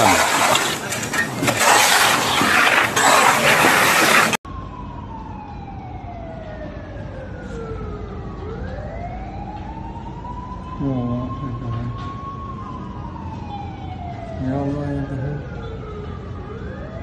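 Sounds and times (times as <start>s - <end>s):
fire engine siren wailing: 0.0s - 17.0s.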